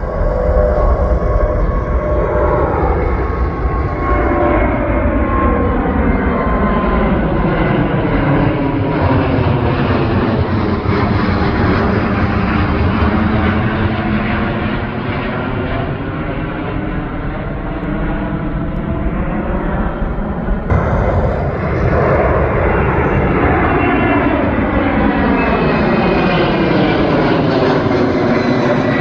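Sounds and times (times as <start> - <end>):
jet engines passing by: 0.0 - 29.0.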